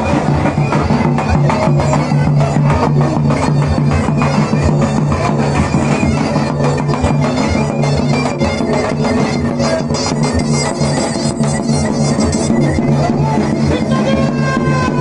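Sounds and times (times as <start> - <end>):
rapid drum strokes: 0.0 - 15.0
reed pipe melody: 0.0 - 15.0.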